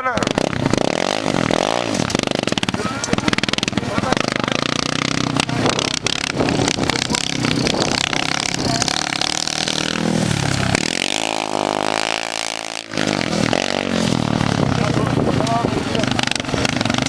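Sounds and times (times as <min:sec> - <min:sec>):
race car engine running hard: 0:00.1 - 0:17.0.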